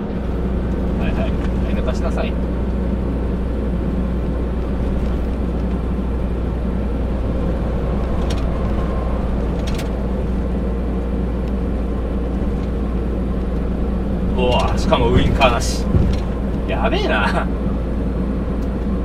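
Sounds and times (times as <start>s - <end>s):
truck diesel engine drone: 0.0s - 19.0s.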